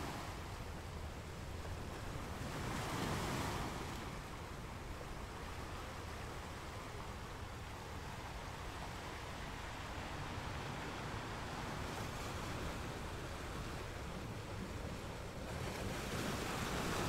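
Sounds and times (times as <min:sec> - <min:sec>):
waves breaking on beach: 0:01.3 - 0:17.0.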